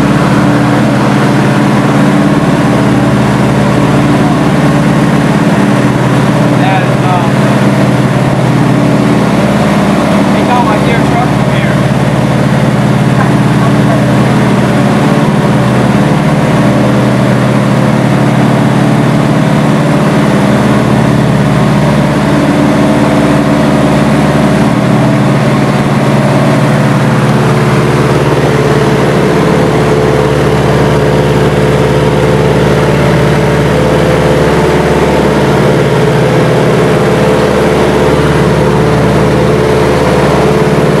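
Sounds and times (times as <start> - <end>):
radial aircraft engines droning: 0.0 - 41.0.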